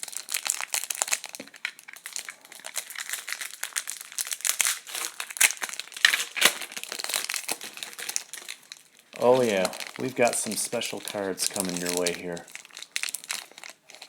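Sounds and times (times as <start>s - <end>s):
card pack wrapper crinkling: 0.0s - 14.0s.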